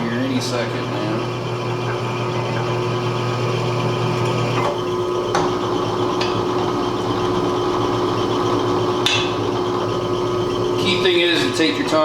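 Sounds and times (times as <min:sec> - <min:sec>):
drill press motor running: 0:00.0 - 0:12.0.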